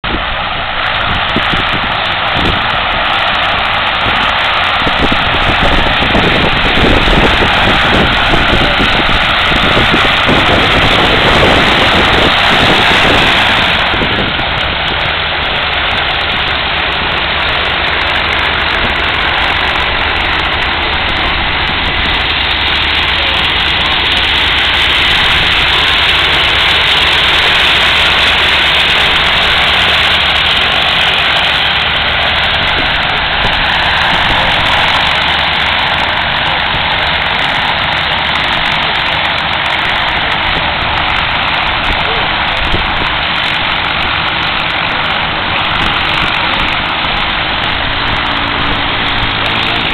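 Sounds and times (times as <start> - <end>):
light aircraft engines droning: 0.0 - 49.9.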